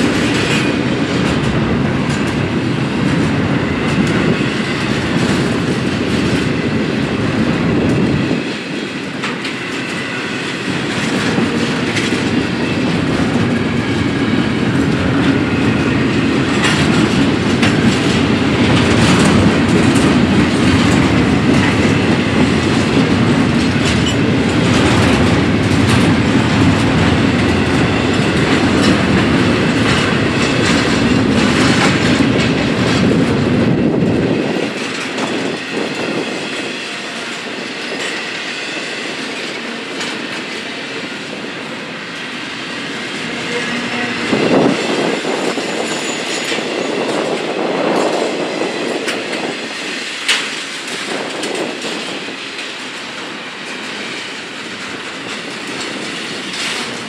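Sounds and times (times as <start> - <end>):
wheels clicking over rails: 0.0 - 41.4, 42.9 - 57.0
freight train rumbling past: 0.0 - 57.0.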